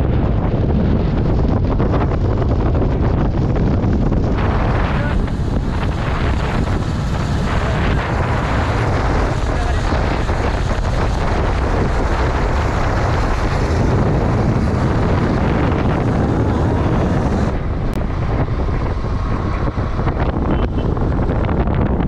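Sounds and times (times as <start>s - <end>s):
motorcycle engine: 0.0s - 22.0s
road noise: 0.0s - 22.0s
wind rushing over microphone: 0.0s - 22.0s.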